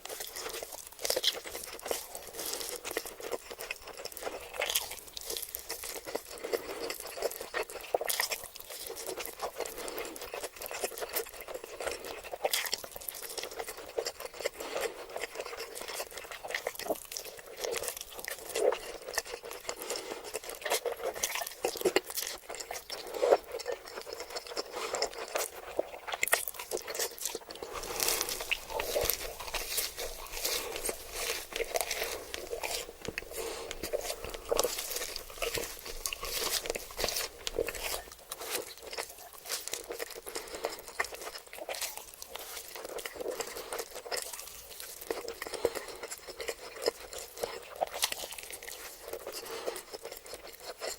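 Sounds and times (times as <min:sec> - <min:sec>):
crunchy food chewing: 0:00.0 - 0:50.9.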